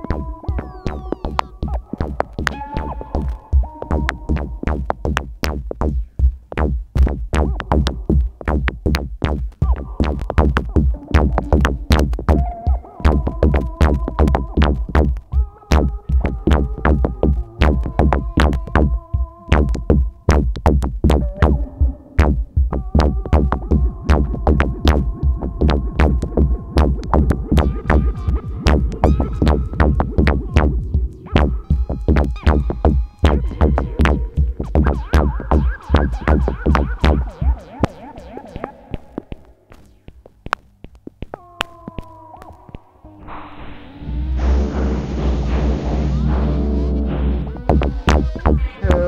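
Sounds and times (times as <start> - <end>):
deep held bass: 0.0 - 37.4, 43.1 - 49.0
fast drum machine beat: 0.0 - 39.2, 45.1 - 49.0
stepping synth tones: 0.0 - 42.1, 42.7 - 49.0.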